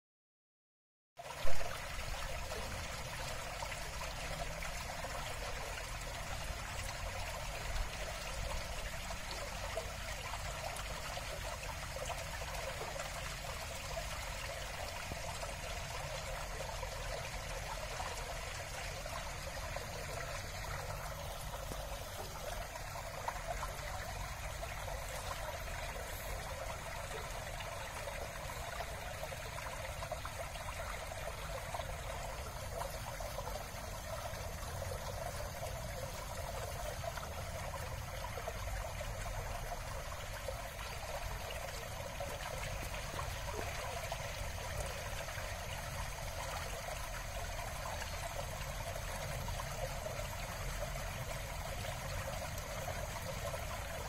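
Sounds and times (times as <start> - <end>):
trickling running water: 1.5 - 54.0.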